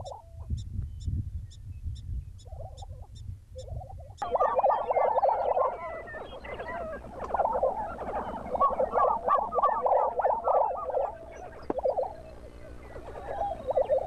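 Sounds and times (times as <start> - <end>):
prairie chickens cackling: 0.0 - 0.6, 2.4 - 14.0.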